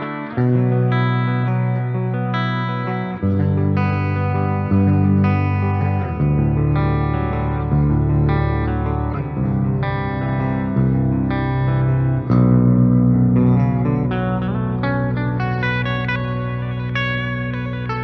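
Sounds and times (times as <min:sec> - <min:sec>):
electric guitar chords ringing: 0:00.0 - 0:18.0.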